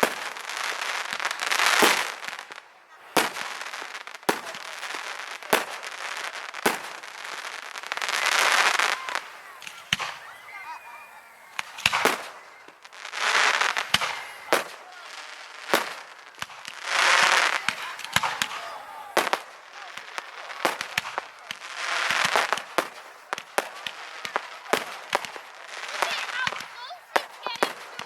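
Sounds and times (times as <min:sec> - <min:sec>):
fireworks bangs: 0:00.0 - 0:28.0
noisy firework swells: 0:00.0 - 0:28.0.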